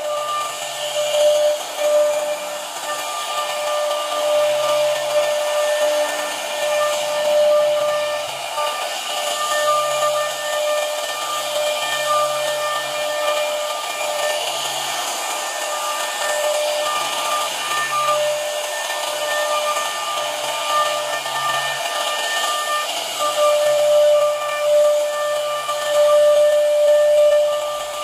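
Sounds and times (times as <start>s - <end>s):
hiss of cutting wood: 0.0s - 28.0s
router spindle whine: 0.0s - 28.0s.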